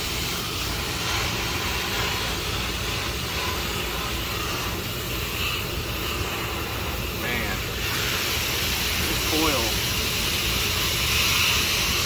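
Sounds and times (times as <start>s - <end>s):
hose spraying water: 0.0s - 12.0s.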